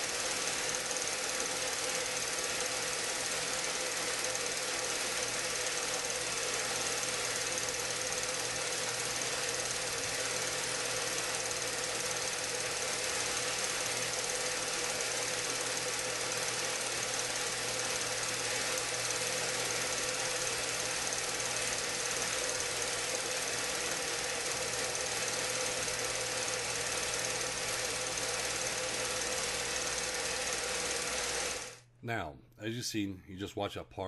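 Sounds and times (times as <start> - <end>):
film projector whirring and clattering: 0.0 - 31.9.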